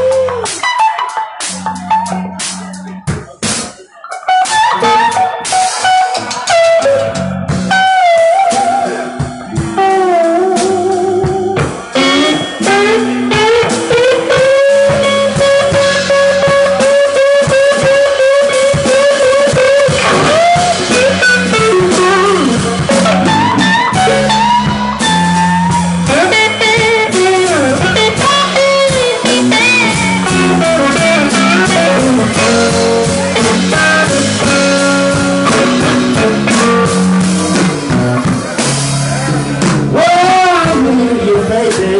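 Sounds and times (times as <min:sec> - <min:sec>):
bass guitar: 0:00.0 - 0:41.9
drum kit: 0:00.0 - 0:41.9
lead electric guitar bending notes: 0:00.0 - 0:41.9.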